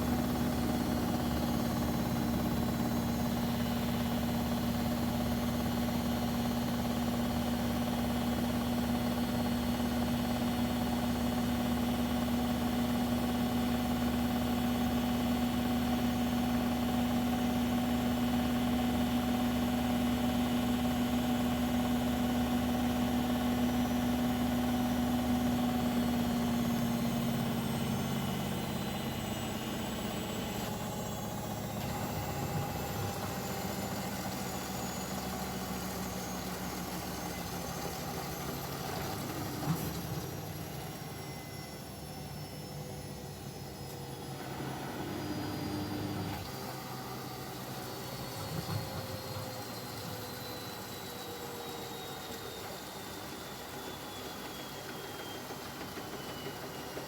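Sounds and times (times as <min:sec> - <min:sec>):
washing machine hum: 0:00.0 - 0:57.0
washing machine motor whine: 0:00.0 - 0:57.0.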